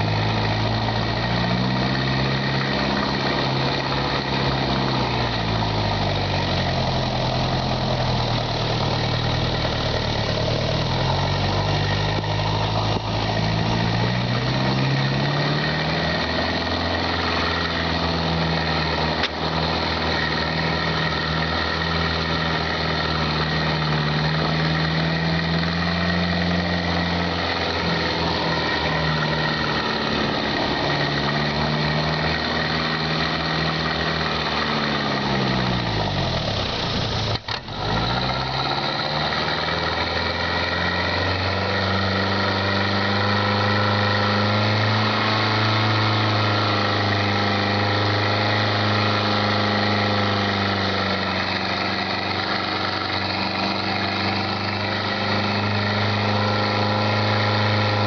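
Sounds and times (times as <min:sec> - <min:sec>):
jeep engine running: 0:00.0 - 0:58.0.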